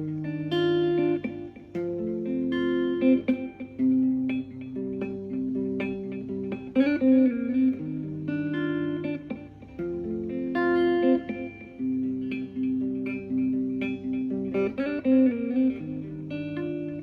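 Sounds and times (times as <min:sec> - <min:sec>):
instrumental guitar music: 0:00.0 - 0:17.0.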